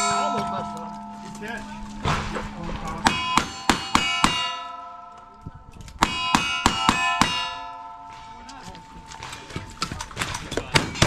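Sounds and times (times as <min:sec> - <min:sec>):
steel plates ringing: 0:00.0 - 0:09.9.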